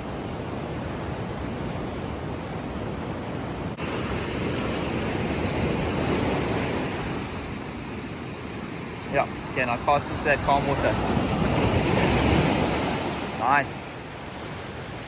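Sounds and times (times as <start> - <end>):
waves washing on rocky shore: 0.0 - 15.0.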